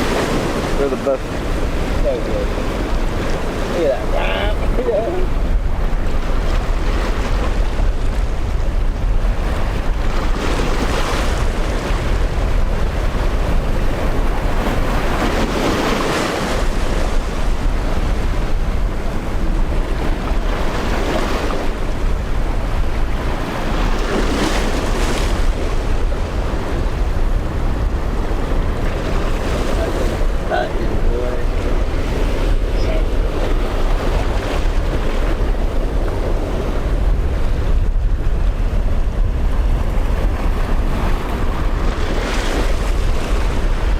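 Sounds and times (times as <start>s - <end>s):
waves washing and breaking: 0.0s - 43.9s
wind buffeting microphone: 0.0s - 43.9s.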